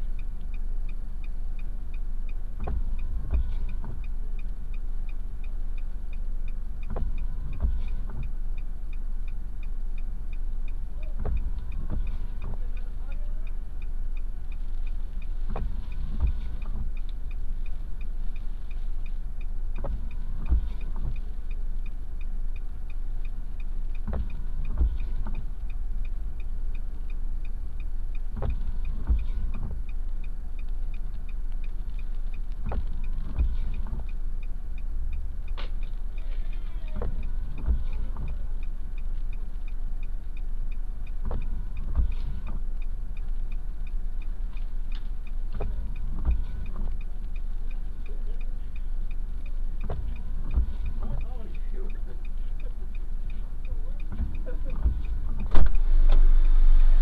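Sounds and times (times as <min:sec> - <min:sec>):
car engine idling: 0:00.0 - 0:57.0
car flasher ticking: 0:00.0 - 0:57.0
dull low thumps: 0:00.0 - 0:57.0.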